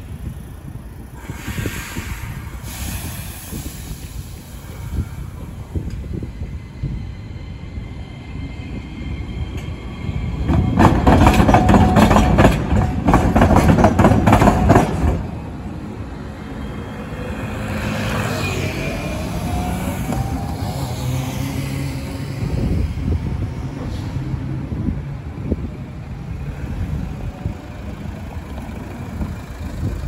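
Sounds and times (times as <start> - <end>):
low running rumble of tram: 0.0 - 30.0
tram wheels clattering over rail gaps: 0.0 - 30.0.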